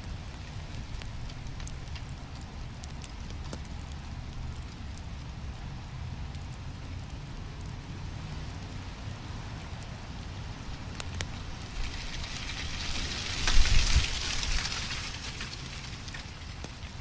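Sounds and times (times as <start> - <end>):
fire crackling: 0.0 - 17.0
wood fire hissing: 0.0 - 17.0.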